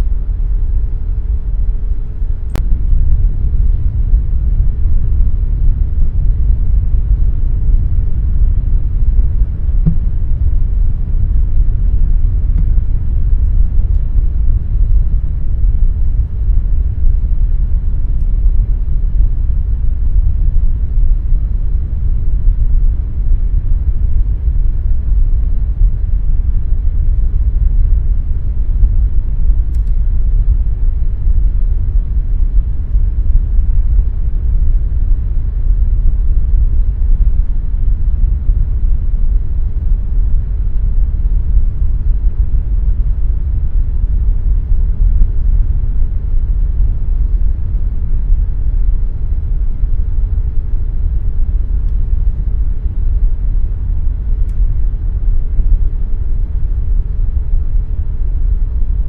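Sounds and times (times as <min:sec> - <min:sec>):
air conditioner fan rumble: 0:00.0 - 0:59.0
faint steady hum: 0:00.0 - 0:59.0.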